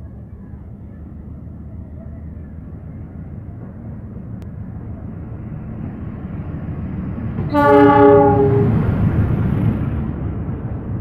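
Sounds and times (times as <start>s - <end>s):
train approaching rumble: 0.0s - 11.0s.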